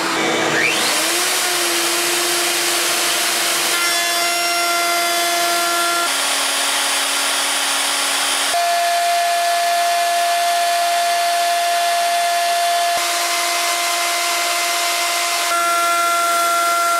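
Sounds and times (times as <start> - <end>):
router cutting wood: 0.0 - 16.9.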